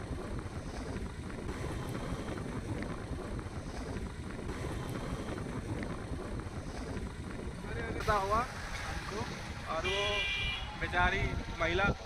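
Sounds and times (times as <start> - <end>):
motorcycle running noise: 0.0 - 12.0
wind buffeting microphone: 0.0 - 12.0.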